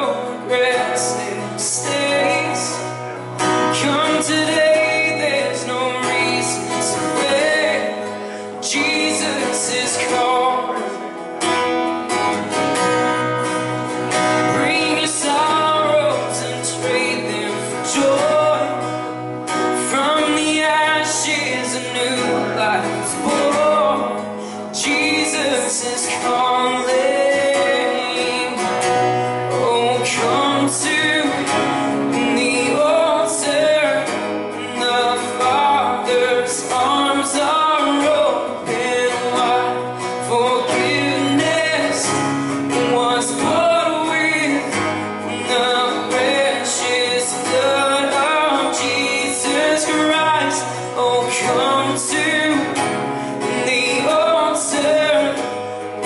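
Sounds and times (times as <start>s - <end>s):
man and woman singing: 0.0s - 11.1s, 14.4s - 18.9s, 19.8s - 28.8s, 29.4s - 55.8s
acoustic guitar strumming: 0.0s - 56.0s.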